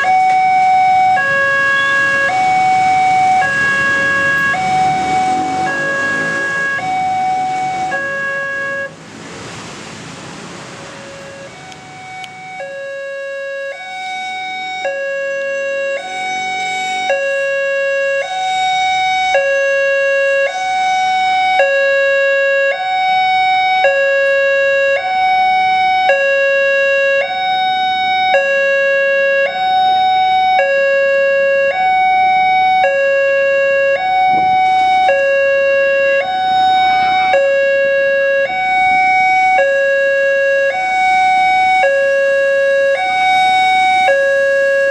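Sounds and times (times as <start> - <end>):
two-tone crossing alarm: 0.0 - 9.0, 10.9 - 44.9.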